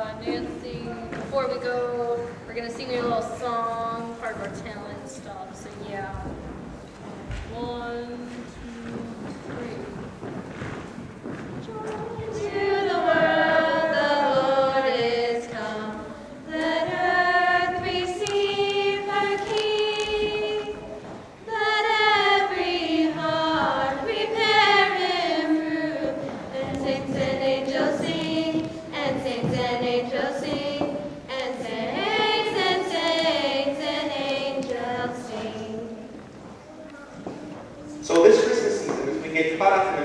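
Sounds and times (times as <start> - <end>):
girls and women singing: 0.0 - 6.6, 7.2 - 36.6.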